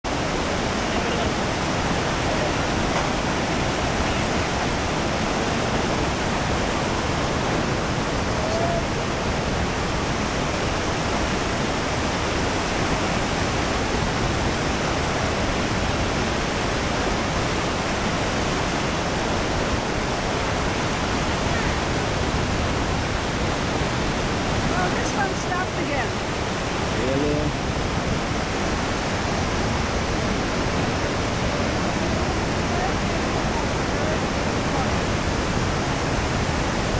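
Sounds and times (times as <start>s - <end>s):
waterfall and rapids rushing: 0.0s - 36.9s.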